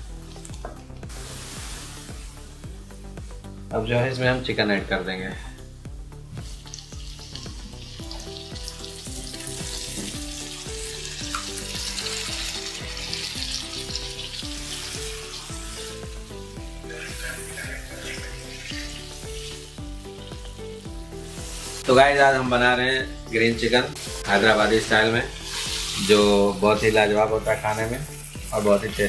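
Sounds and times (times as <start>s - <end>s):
chicken sizzling in hot fat: 0.0s - 3.6s, 5.9s - 29.0s
light background music: 0.0s - 29.0s.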